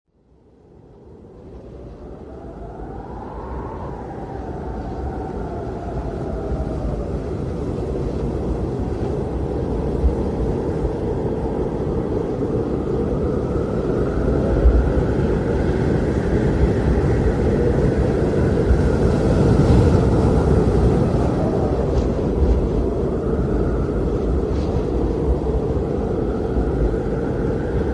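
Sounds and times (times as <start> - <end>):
faint gliding whine: 0.2 - 27.9
steady rumble: 1.2 - 27.9.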